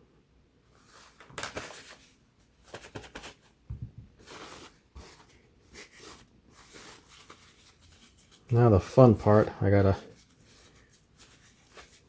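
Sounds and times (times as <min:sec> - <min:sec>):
rustling and scraping: 0:00.7 - 0:08.6, 0:09.2 - 0:12.0.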